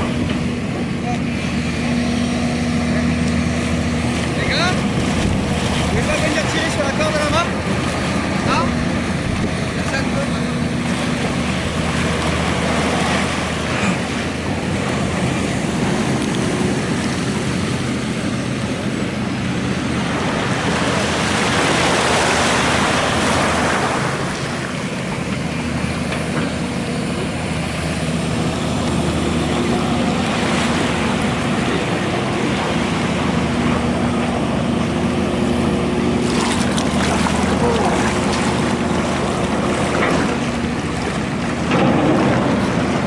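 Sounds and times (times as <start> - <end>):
excavator diesel engine droning: 0.0 - 43.0
small waves washing ashore: 0.0 - 43.0.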